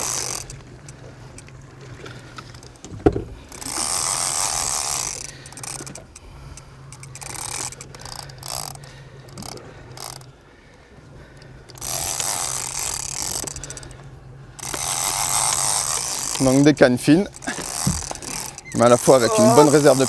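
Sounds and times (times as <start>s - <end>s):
fishing reel ratcheting: 0.0s - 1.6s, 3.4s - 10.3s, 11.7s - 20.0s.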